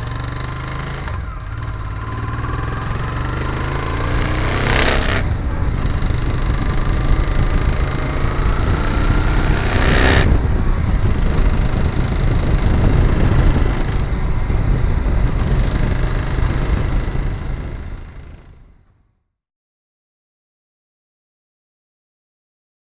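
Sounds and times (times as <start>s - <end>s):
motorcycle engine knocking: 0.0s - 18.7s.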